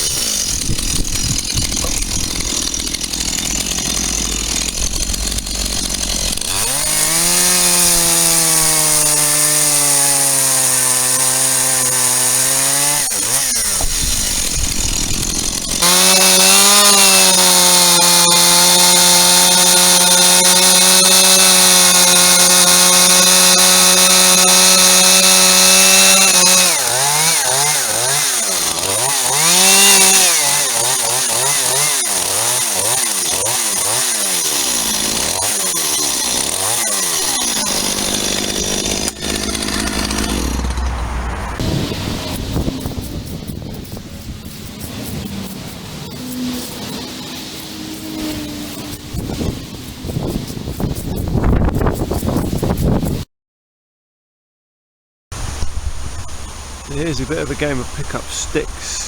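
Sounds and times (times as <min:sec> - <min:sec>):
chainsaw revving: 0:00.0 - 0:50.0, 0:56.9 - 0:59.0.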